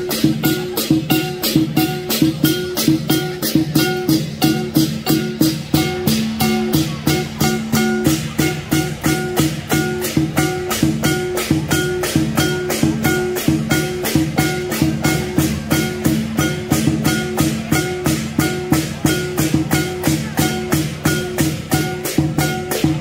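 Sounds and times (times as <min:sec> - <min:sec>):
drum and cymbals beating: 0:00.0 - 0:23.0
ringing pitched notes: 0:00.0 - 0:23.0.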